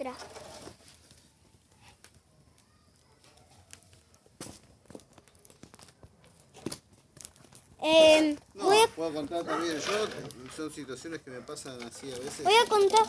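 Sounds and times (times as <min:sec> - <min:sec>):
faint crackles and clicks: 0:00.0 - 0:13.0.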